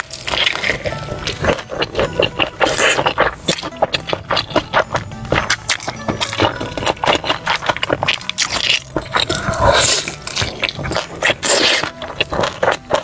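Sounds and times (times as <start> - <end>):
crunching fried chicken: 0.0 - 13.0.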